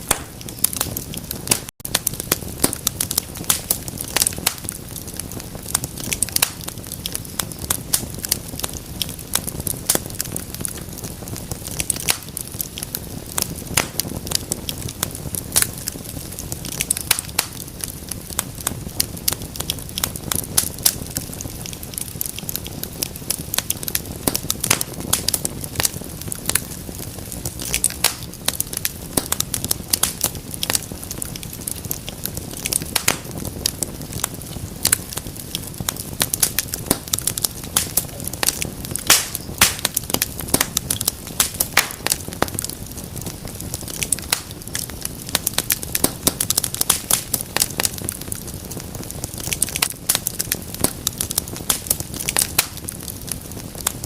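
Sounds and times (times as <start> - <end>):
fire pops and snaps: 0.0 - 54.0
low rush of flame: 0.0 - 54.0.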